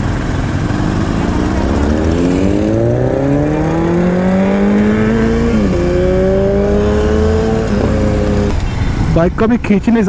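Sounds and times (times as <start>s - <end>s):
motorcycle engine accelerating: 0.0s - 8.6s.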